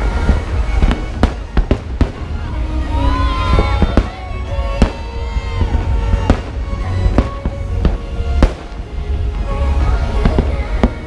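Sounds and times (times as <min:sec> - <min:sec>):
fireworks bangs: 0:00.0 - 0:11.0
music playing: 0:00.0 - 0:11.0.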